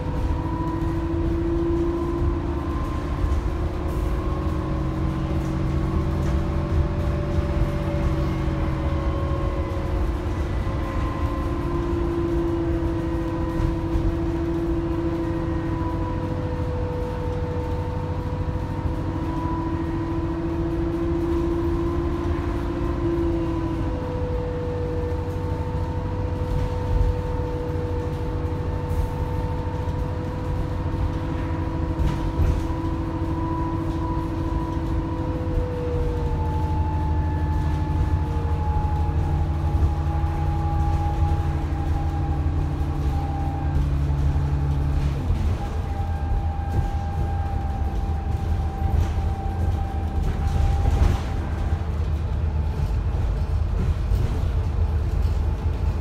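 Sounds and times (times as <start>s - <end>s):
bus diesel rumble: 0.0s - 56.0s.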